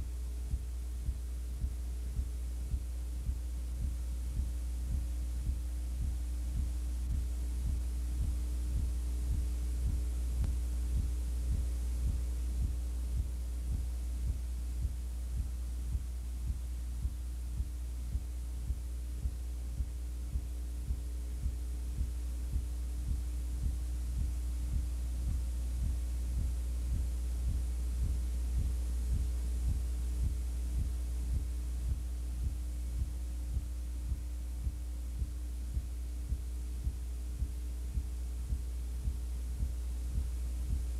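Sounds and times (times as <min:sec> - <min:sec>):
low electrical hum throbbing: 0:00.0 - 0:40.9.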